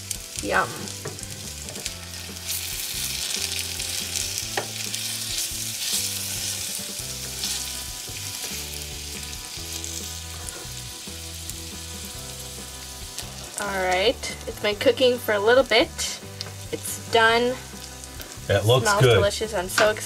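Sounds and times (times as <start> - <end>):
onions and mushrooms sizzling: 0.0 - 20.0.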